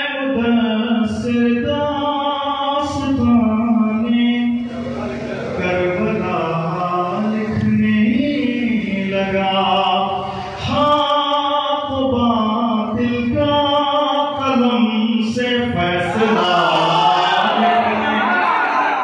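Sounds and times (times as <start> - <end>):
man chanting through a microphone: 0.0 - 18.7.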